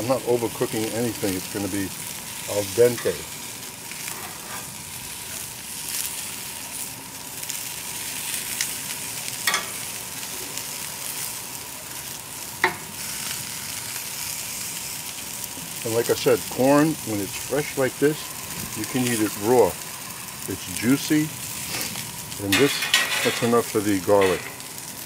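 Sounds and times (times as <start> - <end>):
vegetables sizzling on a grill: 0.0 - 25.0.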